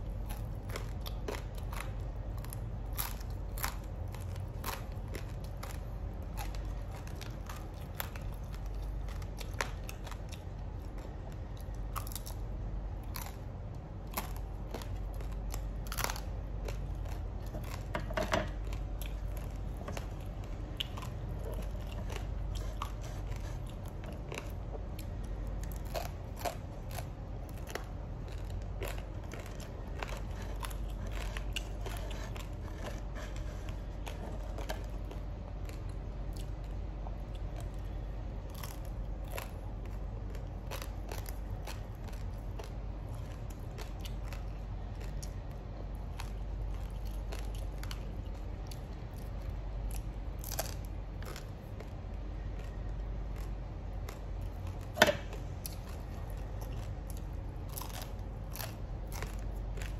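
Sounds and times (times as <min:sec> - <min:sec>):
wet chewing: 0:00.0 - 0:59.9.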